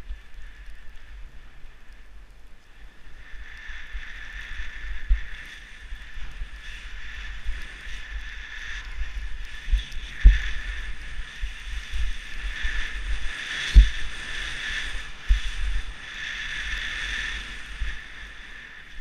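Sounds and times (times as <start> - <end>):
skis scraping over snow: 0.0 - 19.0
wind rumbling on microphone: 0.0 - 19.0.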